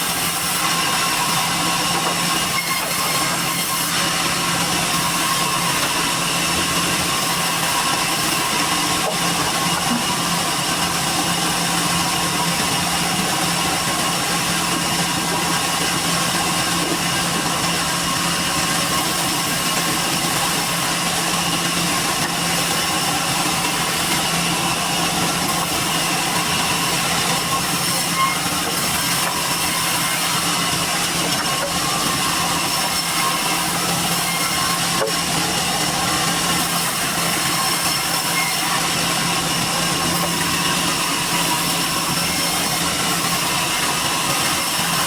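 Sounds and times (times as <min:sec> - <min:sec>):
sawmill machinery drone: 0:00.0 - 0:45.0.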